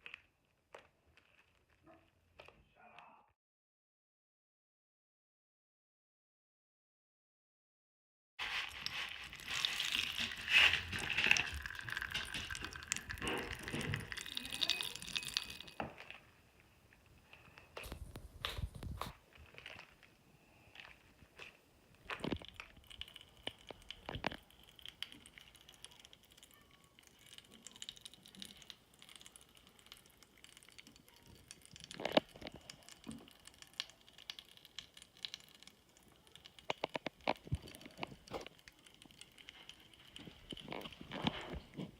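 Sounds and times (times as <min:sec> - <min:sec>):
bath crackles crackling: 0:00.0 - 0:02.6, 0:08.4 - 0:41.9.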